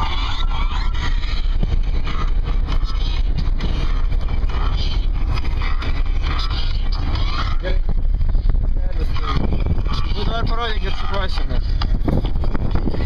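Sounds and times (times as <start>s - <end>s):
road and engine rumble: 0.0s - 13.0s
wind rushing through car window: 0.0s - 13.0s.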